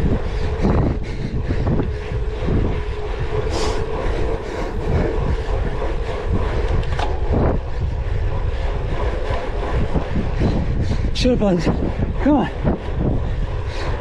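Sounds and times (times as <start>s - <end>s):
bike tyres and drivetrain rumbling: 0.0s - 14.0s
wind buffeting microphone: 0.0s - 14.0s.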